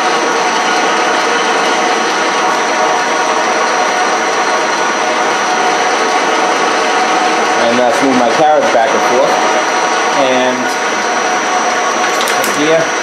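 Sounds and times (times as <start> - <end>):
lathe gears whirring and clattering: 0.0 - 13.0.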